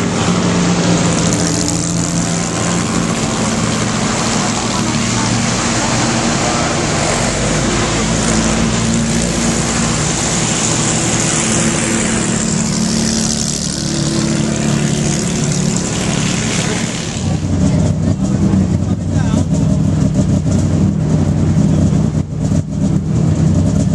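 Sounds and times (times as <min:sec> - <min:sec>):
racing car engines running: 0:00.0 - 0:23.9.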